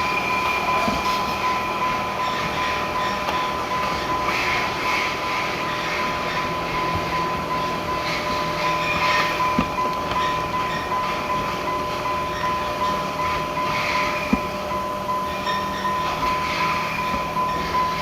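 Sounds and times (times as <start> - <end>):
car wash machinery running: 0.0 - 18.0
high whine: 0.0 - 18.0.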